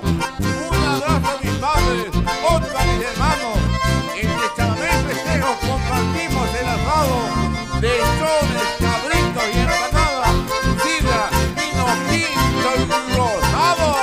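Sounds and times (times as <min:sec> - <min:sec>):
steady low beat: 0:00.0 - 0:13.9
accordions playing: 0:00.0 - 0:14.0
acoustic guitars: 0:00.0 - 0:14.0.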